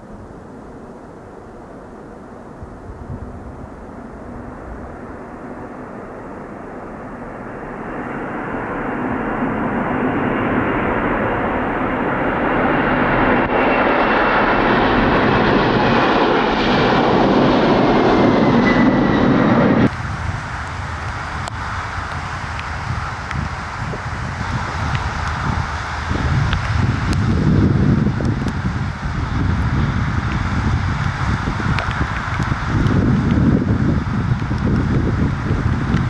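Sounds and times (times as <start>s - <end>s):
airplane engine noise: 0.0s - 36.0s.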